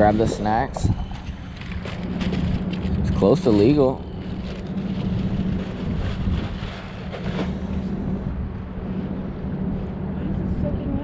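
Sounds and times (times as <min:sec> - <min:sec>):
steady low hum: 0:00.0 - 0:11.0
wind rumbling on microphone: 0:00.0 - 0:11.0.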